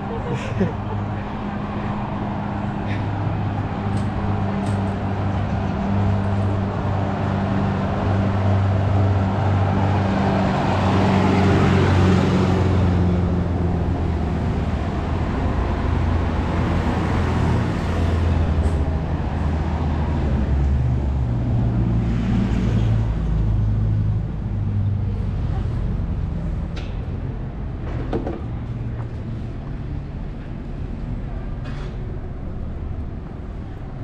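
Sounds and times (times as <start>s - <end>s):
car engines humming: 0.0s - 34.0s.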